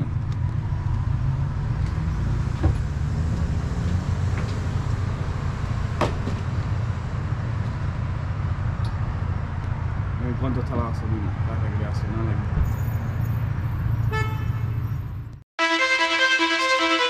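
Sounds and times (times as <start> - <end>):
vehicle engine and road rumble: 0.0 - 15.4.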